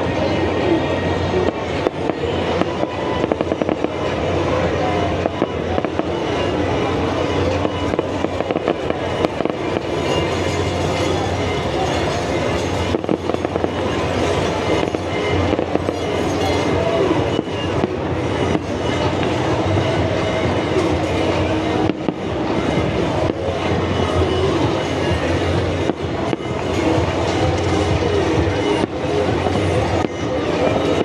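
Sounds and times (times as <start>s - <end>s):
fairground noise rumble: 0.0s - 31.0s
fireworks bursting: 1.4s - 31.0s.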